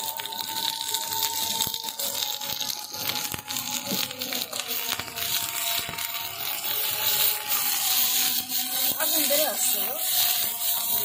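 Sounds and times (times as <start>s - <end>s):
onions sizzling in oil: 0.0s - 11.0s
wood fire crackles and pops: 0.0s - 11.0s.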